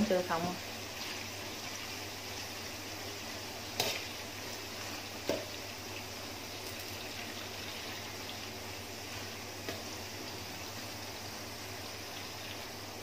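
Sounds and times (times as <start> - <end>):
deep-frying sizzle in oil: 0.0 - 13.0.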